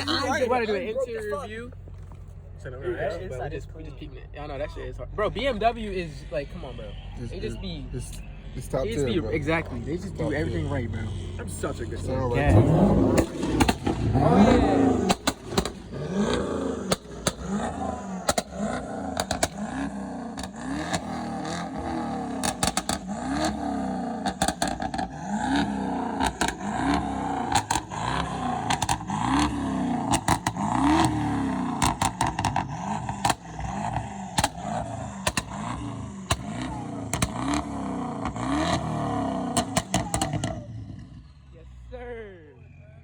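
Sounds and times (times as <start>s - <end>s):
exhaust pops and crackles: 0.0s - 2.8s, 3.4s - 41.8s
car engine revving: 0.0s - 43.0s.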